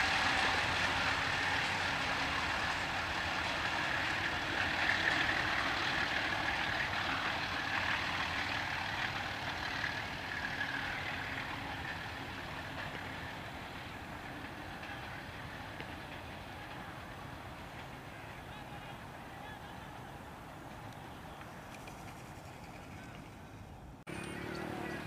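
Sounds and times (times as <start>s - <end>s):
passenger train running on track: 0.0s - 25.0s.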